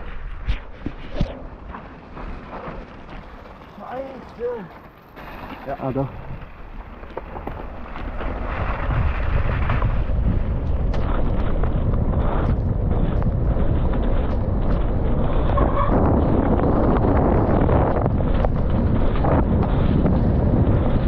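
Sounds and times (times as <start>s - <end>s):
wind rushing over microphone: 0.0s - 2.9s, 5.3s - 21.0s
bike clicks and rattles: 0.0s - 21.0s.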